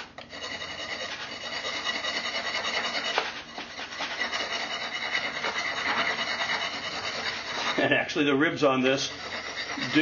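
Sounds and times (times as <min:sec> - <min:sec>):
steel rod grinding firebrick: 0:00.0 - 0:10.0.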